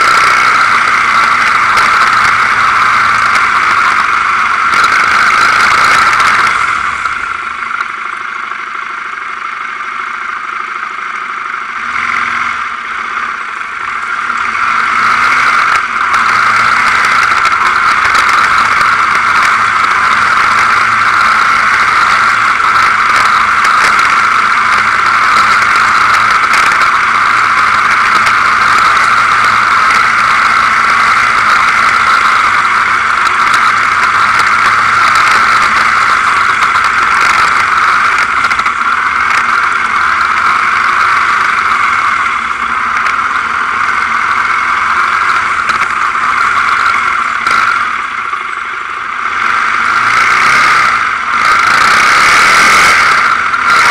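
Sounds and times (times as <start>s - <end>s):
quad bike engine running: 0.0s - 53.9s.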